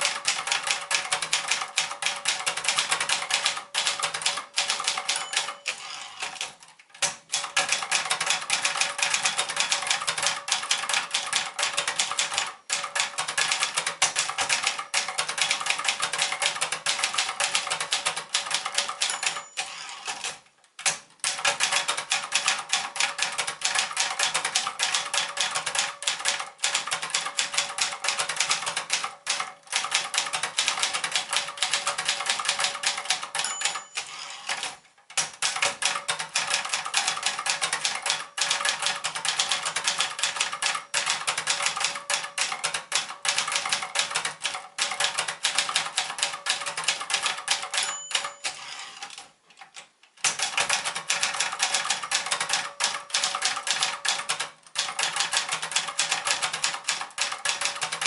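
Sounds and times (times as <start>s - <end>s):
manual typewriter typing: 0.0s - 58.0s.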